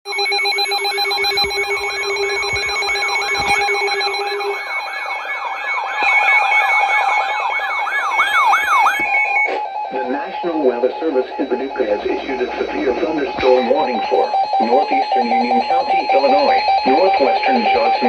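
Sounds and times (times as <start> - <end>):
electronic alert beeps: 0.1 - 7.1, 8.0 - 18.0
siren-like electronic wail: 0.1 - 18.0.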